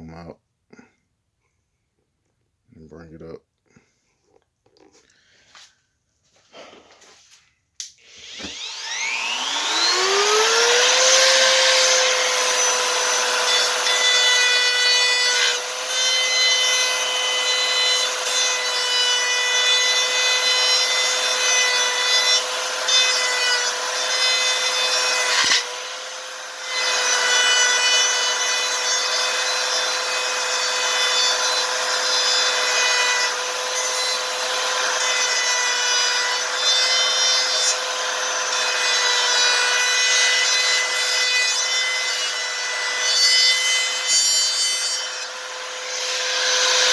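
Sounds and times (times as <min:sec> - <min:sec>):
electric jigsaw cutting: 0:08.0 - 0:46.9.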